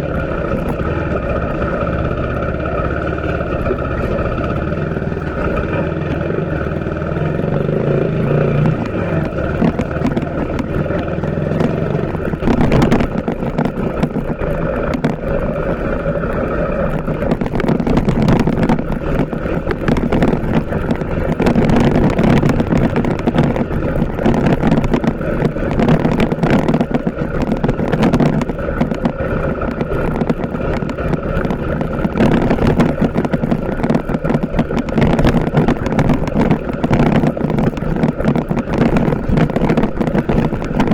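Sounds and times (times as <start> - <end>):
motorcycle engine running: 0.0 - 40.9
rough buffeting noise: 0.0 - 40.9.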